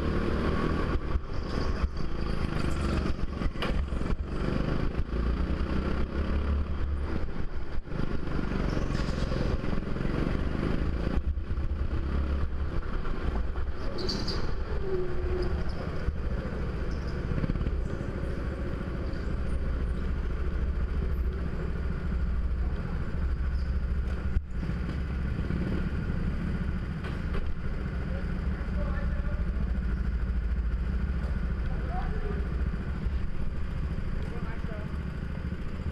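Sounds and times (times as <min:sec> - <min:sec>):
go-kart engine running: 0:00.0 - 0:35.9.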